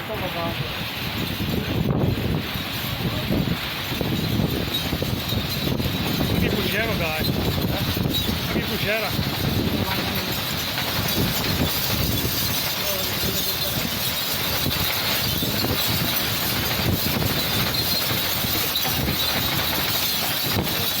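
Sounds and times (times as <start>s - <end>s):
heavy rain: 0.0s - 21.0s
wind rumble on microphone: 0.0s - 21.0s.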